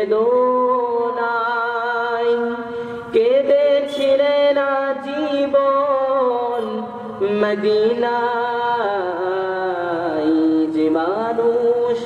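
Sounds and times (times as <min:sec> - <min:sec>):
man singing devotional verse: 0:00.0 - 0:12.0.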